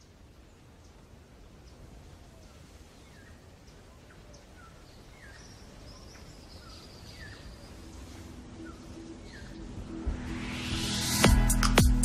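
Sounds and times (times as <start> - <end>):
small birds chirping: 0.0 - 9.9.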